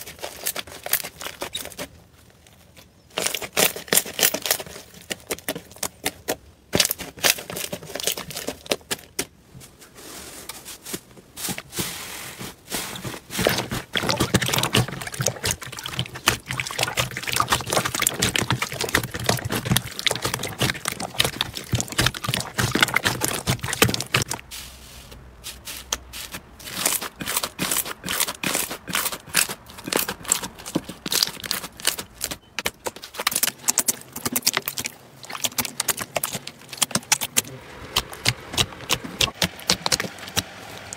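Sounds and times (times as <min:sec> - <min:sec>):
slime squishing and crackling: 0:00.0 - 0:09.2, 0:12.4 - 0:40.9.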